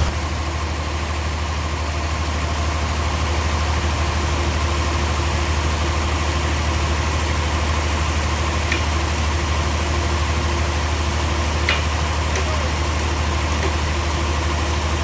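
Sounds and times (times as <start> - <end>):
heavy engine idling: 0.0 - 15.0.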